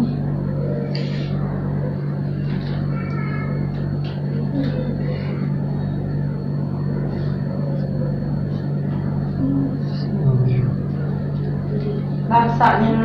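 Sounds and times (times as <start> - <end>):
faint voices: 0.0 - 13.0
noisy rumble: 0.0 - 13.0
steady low hum: 0.0 - 13.0.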